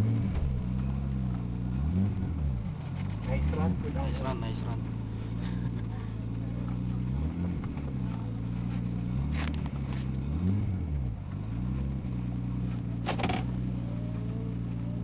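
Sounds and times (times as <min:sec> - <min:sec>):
car engine idling: 0:00.0 - 0:15.0
engine throttle blips: 0:00.0 - 0:15.0.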